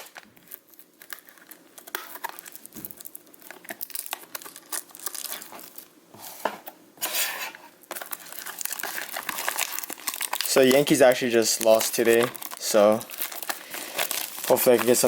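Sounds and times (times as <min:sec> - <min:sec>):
packaging crinkling: 0:00.0 - 0:05.9, 0:07.8 - 0:15.0.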